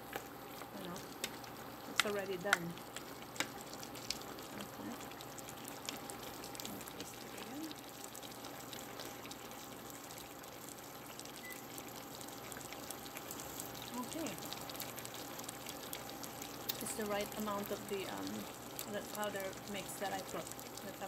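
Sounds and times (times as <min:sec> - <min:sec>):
soup bubbling with small pops: 0:00.0 - 0:21.0.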